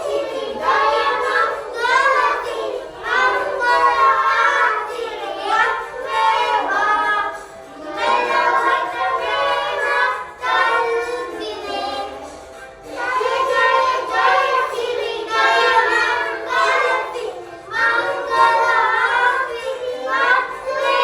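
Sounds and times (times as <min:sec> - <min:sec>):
children singing together: 0:00.0 - 0:21.0.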